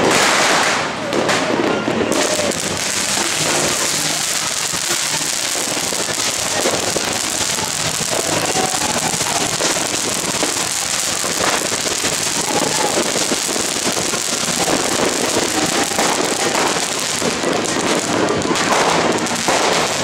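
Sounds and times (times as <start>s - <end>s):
fountain fireworks hissing and crackling: 0.0s - 20.0s.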